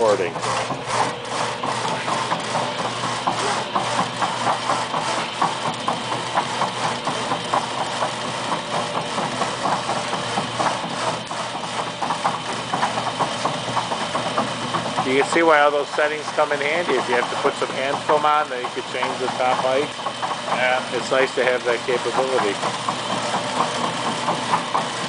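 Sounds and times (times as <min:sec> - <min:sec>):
motor hum: 0:00.0 - 0:25.0.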